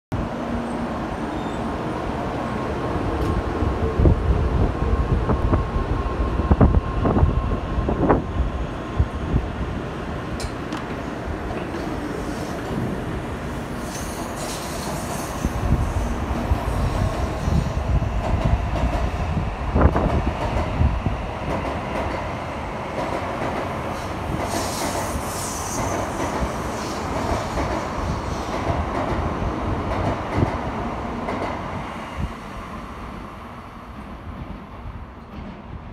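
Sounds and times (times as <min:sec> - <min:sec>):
train rumble: 0:00.6 - 0:35.9.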